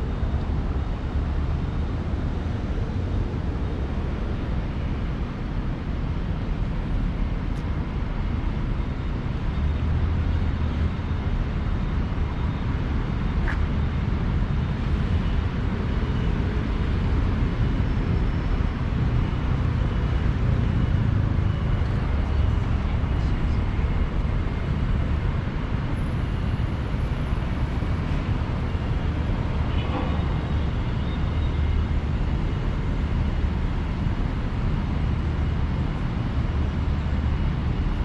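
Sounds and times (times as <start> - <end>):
low rumble of street traffic: 0.0 - 38.0.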